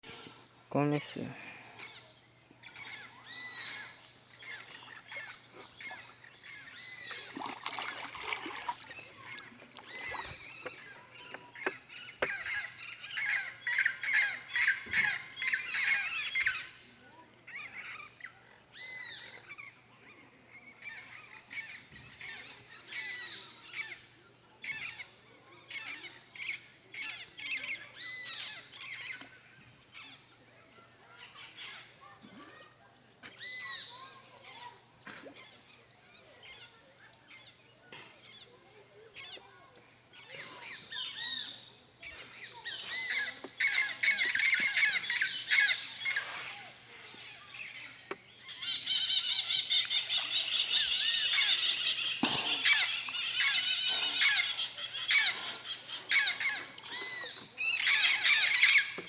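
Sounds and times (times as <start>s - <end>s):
birds calling: 0.0s - 59.0s.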